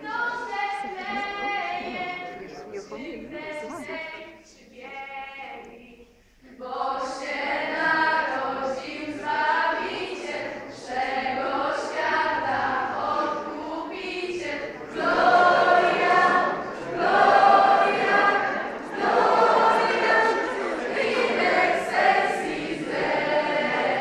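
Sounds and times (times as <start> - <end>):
young voices singing a carol: 0.0 - 24.0.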